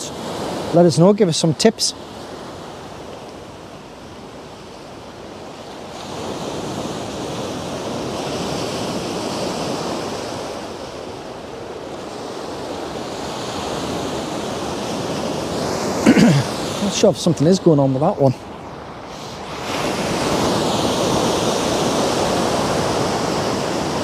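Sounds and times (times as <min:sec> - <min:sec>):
sea waves breaking: 0:00.0 - 0:24.0.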